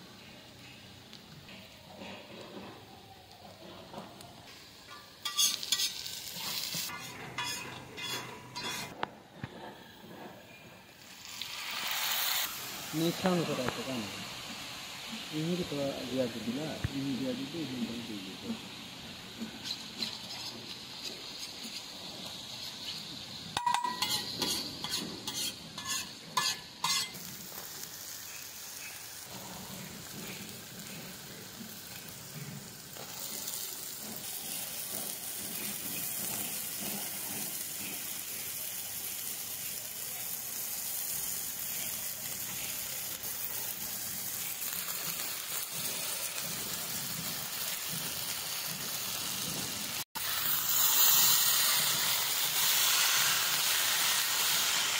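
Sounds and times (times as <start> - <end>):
food sizzling in a pan: 0.0 - 9.0, 9.8 - 54.9.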